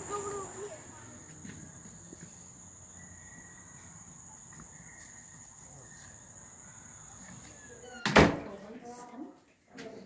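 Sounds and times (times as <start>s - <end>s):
insects chirring: 0.0s - 8.1s.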